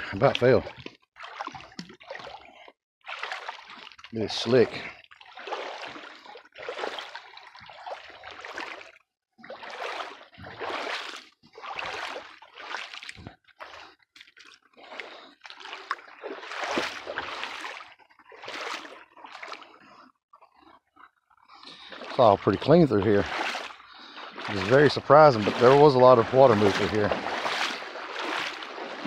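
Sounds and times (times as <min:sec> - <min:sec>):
feet wading through water: 0:00.0 - 0:29.0.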